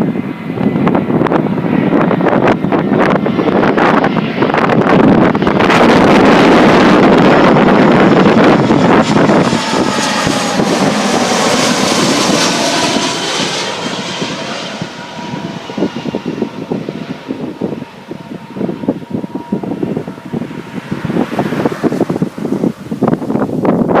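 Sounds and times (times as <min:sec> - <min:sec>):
jet airliner engine whine: 0:00.0 - 0:24.0
wind buffeting microphone: 0:00.0 - 0:24.0.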